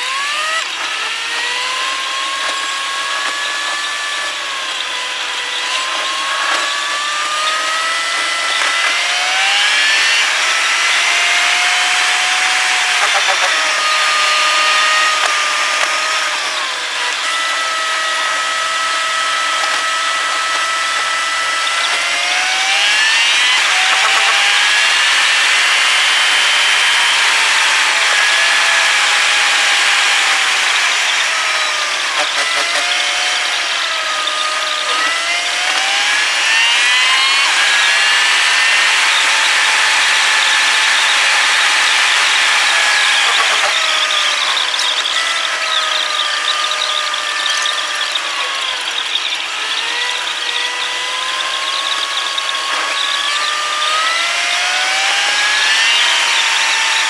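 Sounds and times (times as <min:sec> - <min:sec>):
sped-up car engine whine: 0:00.0 - 0:57.0.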